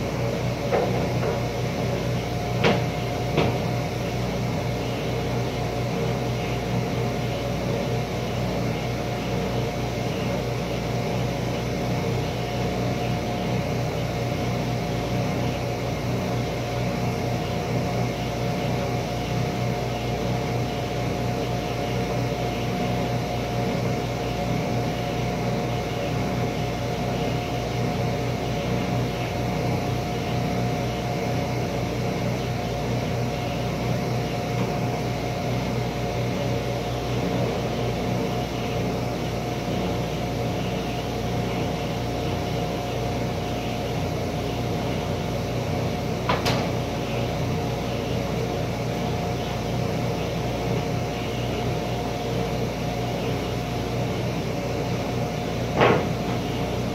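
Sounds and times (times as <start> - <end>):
workshop machine motor humming: 0.0 - 56.9.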